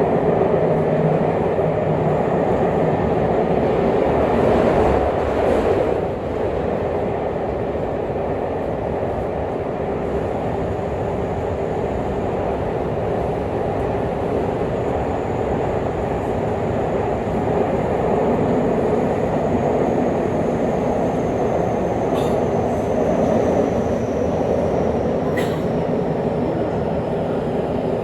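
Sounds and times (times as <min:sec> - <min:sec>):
train rumbling in tunnel: 0:00.0 - 0:28.0.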